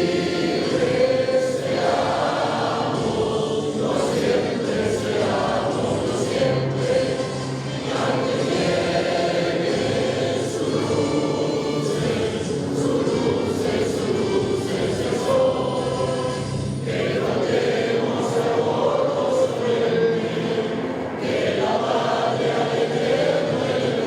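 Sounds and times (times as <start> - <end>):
choir singing a hymn: 0.0 - 24.0
musical accompaniment: 0.0 - 24.0.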